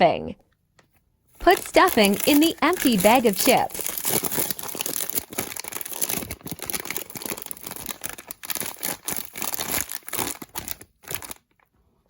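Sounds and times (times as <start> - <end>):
foil bag crinkling: 1.4 - 11.6.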